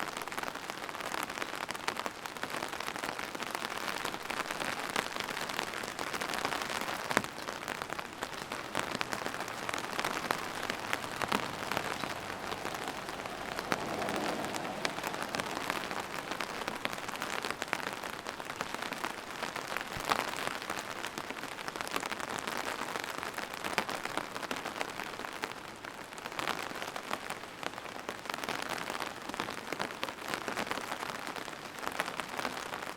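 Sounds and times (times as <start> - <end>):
rain on hard surface: 0.0 - 32.9.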